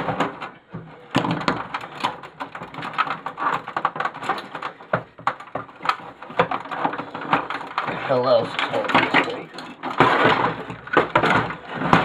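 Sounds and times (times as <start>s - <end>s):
plastic parts clattering and cracking: 0.0s - 12.0s.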